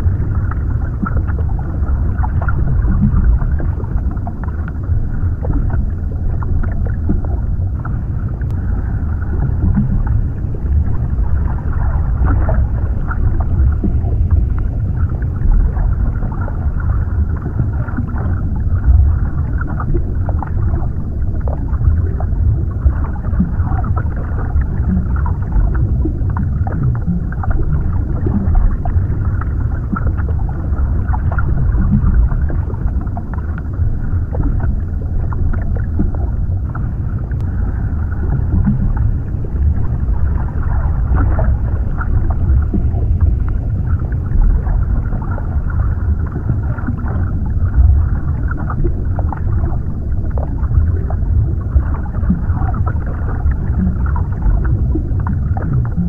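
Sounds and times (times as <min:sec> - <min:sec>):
muffled underwater rumble: 0:00.0 - 0:56.0.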